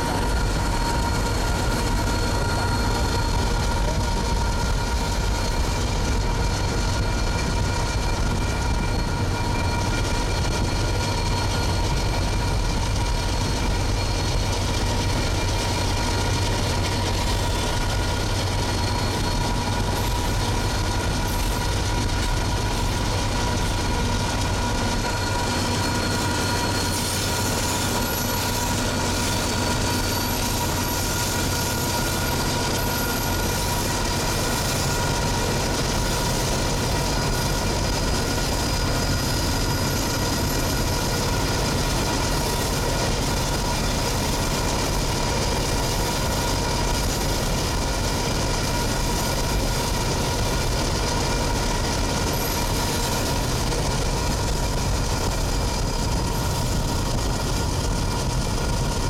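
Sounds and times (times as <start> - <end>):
freight train cars rumbling: 0.0 - 59.0.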